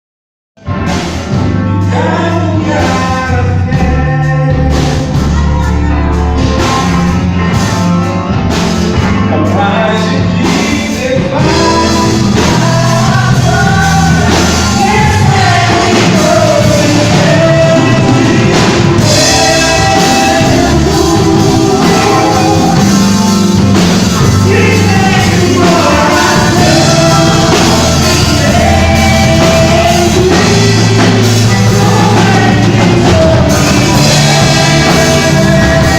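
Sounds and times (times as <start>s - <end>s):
rock band playing live: 0.6s - 35.9s
person singing: 1.8s - 7.9s, 9.1s - 35.9s.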